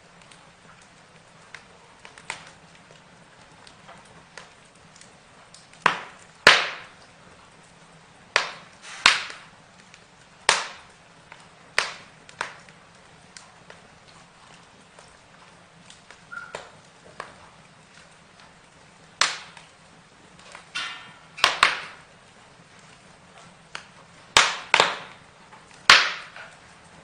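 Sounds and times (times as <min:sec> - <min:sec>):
burning wood crackling: 0:00.0 - 0:27.0
sharp pops and snaps: 0:00.1 - 0:27.0.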